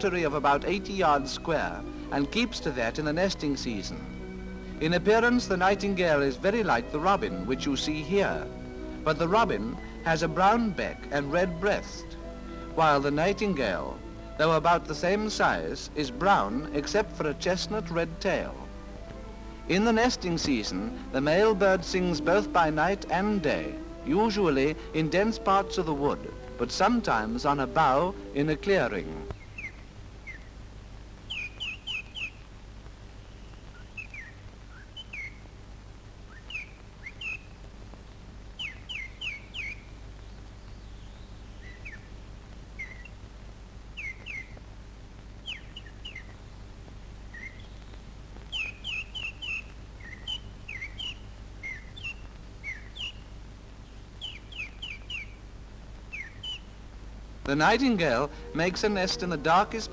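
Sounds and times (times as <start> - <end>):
nightingale singing: 0.0 - 30.6, 31.2 - 32.5, 33.2 - 35.5, 36.3 - 37.6, 38.6 - 43.2, 43.9 - 44.6, 45.4 - 46.6, 47.3 - 59.9
film soundtrack hum: 0.0 - 59.9.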